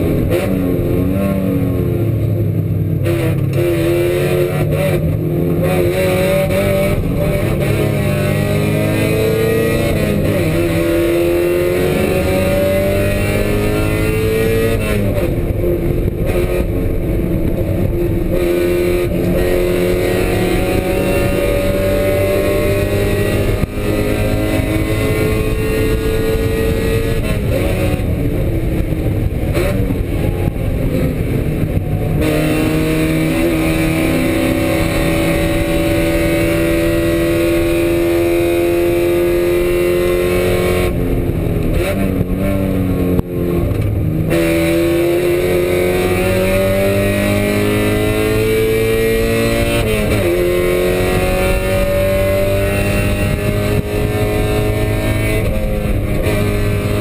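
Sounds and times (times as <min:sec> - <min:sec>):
race car engine at full pace: 0:00.0 - 0:57.0.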